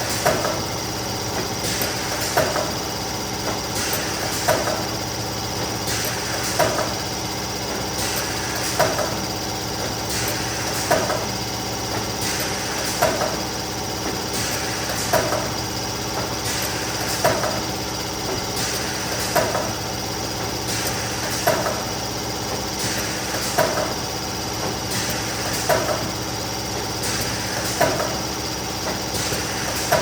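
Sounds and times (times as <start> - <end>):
laminating machine motor hum: 0.0 - 30.0.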